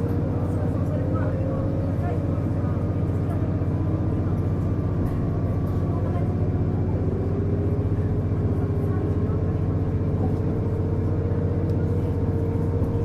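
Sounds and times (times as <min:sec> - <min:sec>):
railcar engine rumble: 0:00.0 - 0:13.0.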